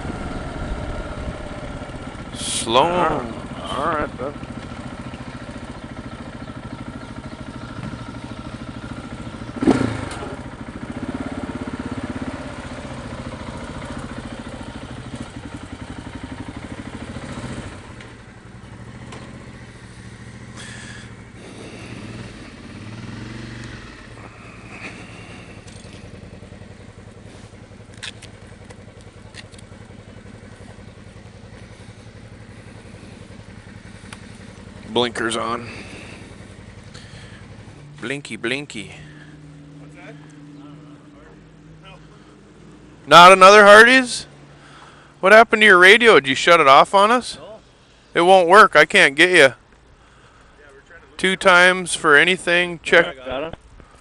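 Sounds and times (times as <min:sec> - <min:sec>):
motorcycle engine running: 0:00.0 - 0:48.2, 0:48.9 - 0:54.0.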